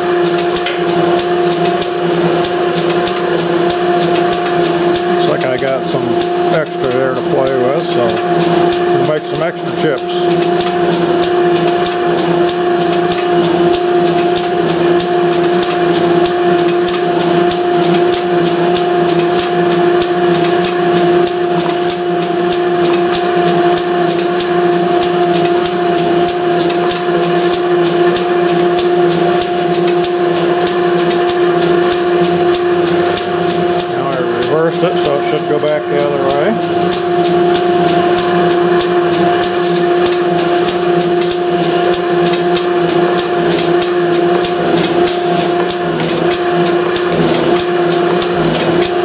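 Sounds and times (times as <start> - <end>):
motor and gear whine: 0.0 - 49.0
regular clicks of metal shaper: 0.0 - 49.0.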